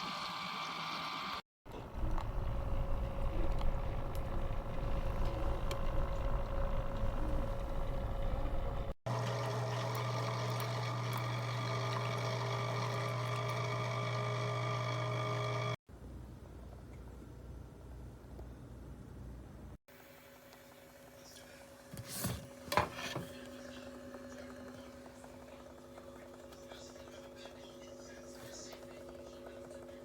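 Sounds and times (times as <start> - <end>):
coffee maker pump humming: 0.0 - 15.8, 19.9 - 30.0.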